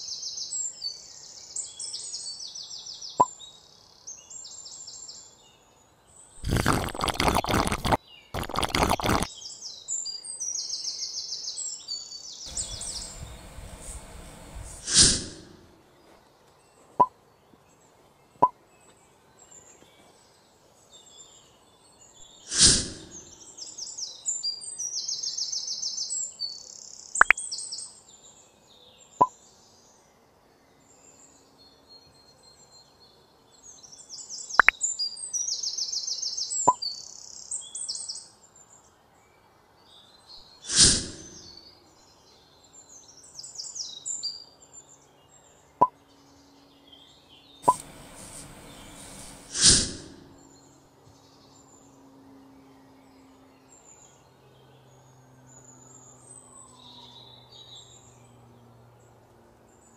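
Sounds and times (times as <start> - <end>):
birds chirping in trills: 0.0 - 38.9, 39.9 - 58.5.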